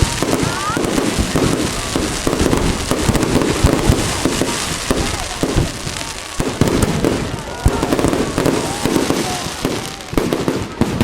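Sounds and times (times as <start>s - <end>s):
fireworks bangs and thuds: 0.0s - 11.0s
fireworks crackling: 0.0s - 11.0s.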